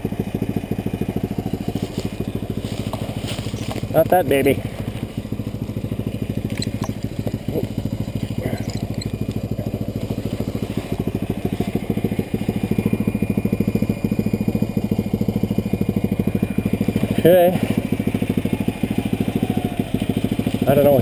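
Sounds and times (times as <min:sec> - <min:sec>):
engine idling with rapid putter: 0:00.0 - 0:21.0.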